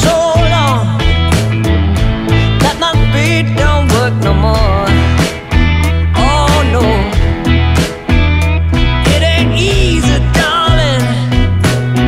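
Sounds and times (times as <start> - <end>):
rock song: 0.0 - 12.0.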